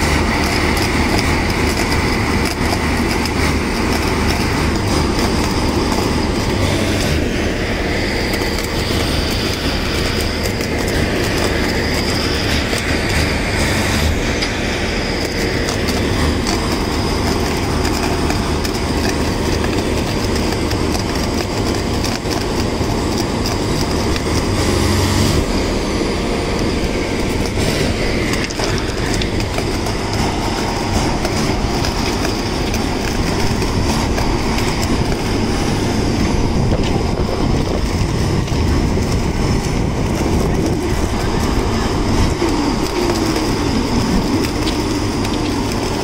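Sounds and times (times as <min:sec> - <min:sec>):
welding arc crackling: 0:00.0 - 0:46.0
welding machinery drone: 0:00.0 - 0:46.0.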